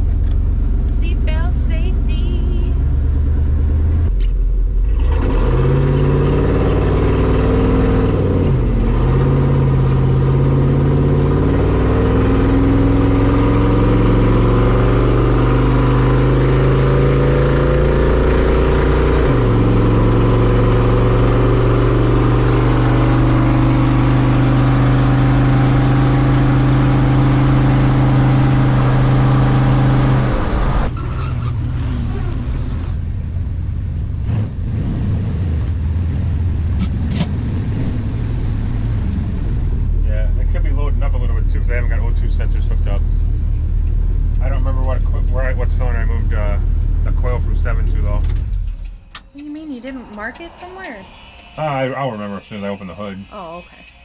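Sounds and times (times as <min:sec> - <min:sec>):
car engine under load: 0:00.0 - 0:54.0.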